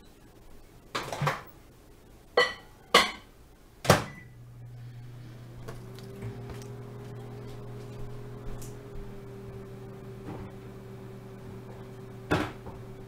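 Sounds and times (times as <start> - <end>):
microwave humming: 2.4 - 13.0.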